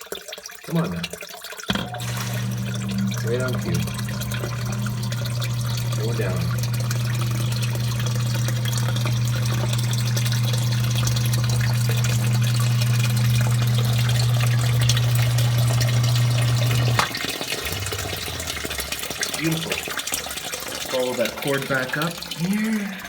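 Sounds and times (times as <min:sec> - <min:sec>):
sump pump humming: 0:00.9 - 0:23.0
water rushing: 0:01.7 - 0:23.0.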